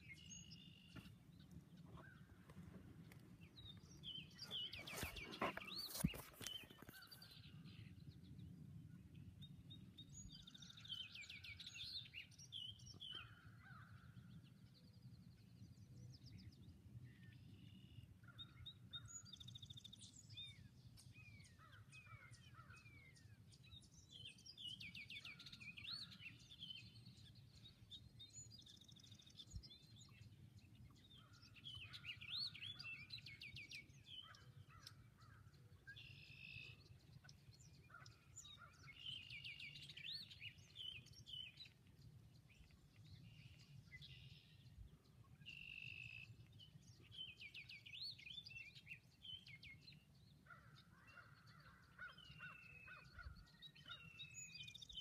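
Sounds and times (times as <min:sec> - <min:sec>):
blackbirds singing: 0:00.0 - 0:08.1, 0:10.0 - 0:16.5, 0:17.2 - 0:55.0.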